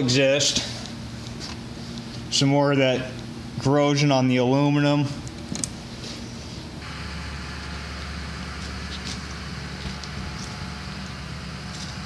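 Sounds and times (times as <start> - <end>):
machine hum and whir: 0.0 - 12.0.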